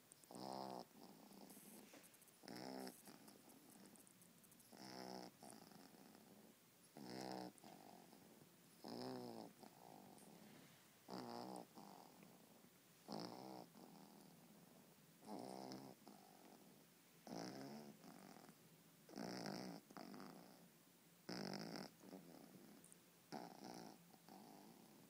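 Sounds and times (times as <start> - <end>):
dog snoring: 0.2 - 4.0, 4.7 - 20.6, 21.3 - 25.0
soft dog breathing: 0.2 - 20.7.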